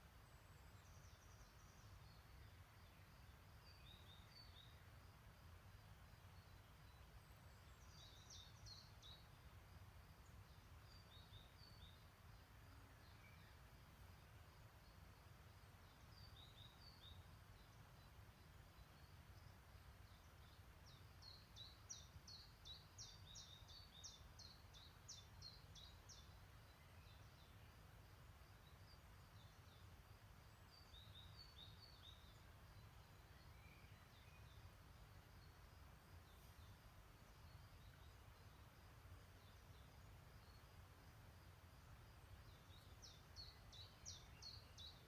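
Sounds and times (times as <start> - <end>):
songbirds chirping: 0.0 - 45.0.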